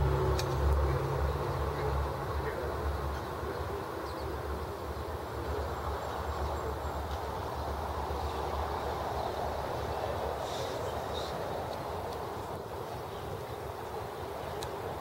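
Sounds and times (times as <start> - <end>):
outdoor rushing noise: 0.0 - 15.0.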